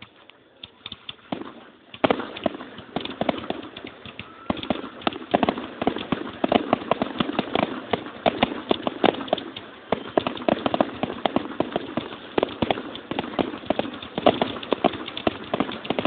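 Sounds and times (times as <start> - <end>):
fireworks popping and cracking: 0.0 - 16.0.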